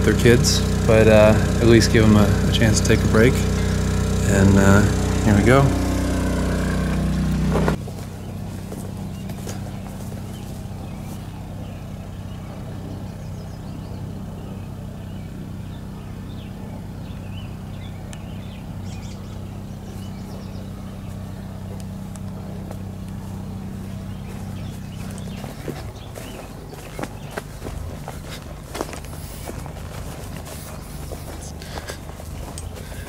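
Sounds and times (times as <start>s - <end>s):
birds chirping: 0.0s - 33.0s
low engine hum: 0.0s - 33.0s.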